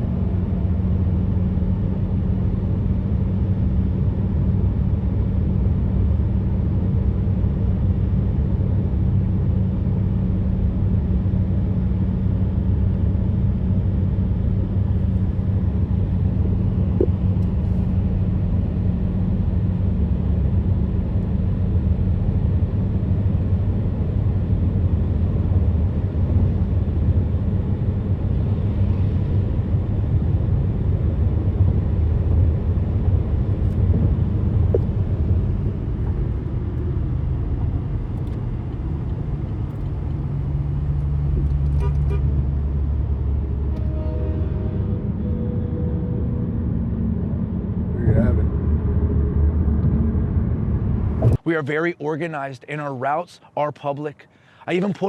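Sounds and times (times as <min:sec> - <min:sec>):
vehicles rumbling on road: 0:00.0 - 0:51.5.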